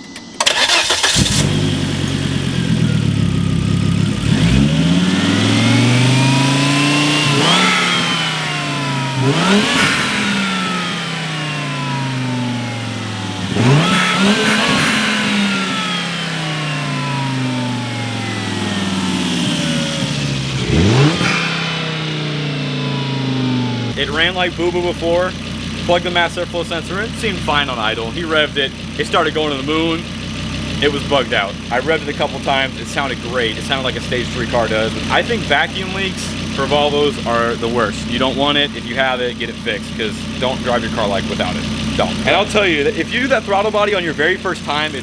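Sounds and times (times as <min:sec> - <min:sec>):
car engine idling and revving: 0:00.0 - 0:45.0
turbo whine: 0:00.0 - 0:45.0.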